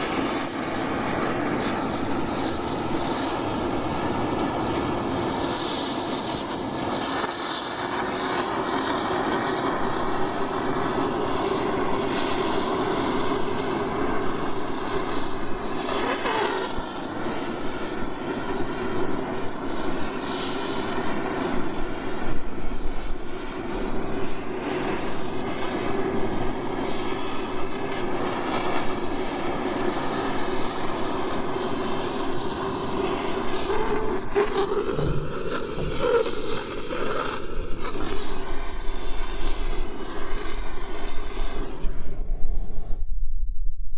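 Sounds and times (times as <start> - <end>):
torch burning with a hiss: 0.0 - 43.1.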